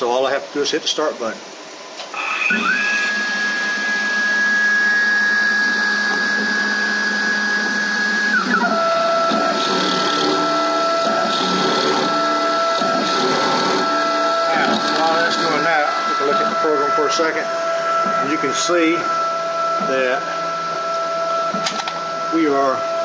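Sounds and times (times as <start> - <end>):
milling machine spindle whine: 0.0 - 23.0
end mill cutting brass: 2.0 - 23.0.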